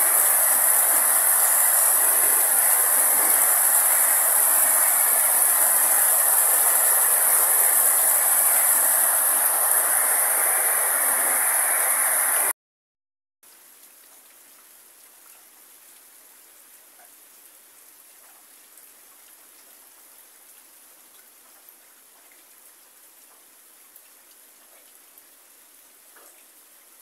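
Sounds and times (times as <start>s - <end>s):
rain falling: 0.0s - 12.5s, 13.5s - 27.0s.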